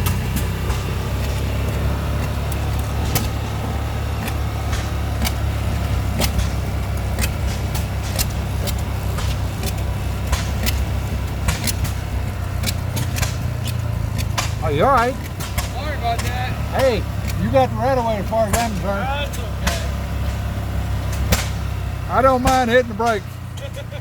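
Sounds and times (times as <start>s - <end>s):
engines rumbling: 0.0s - 24.0s
sharp irregular clicks and knocks: 0.0s - 24.0s.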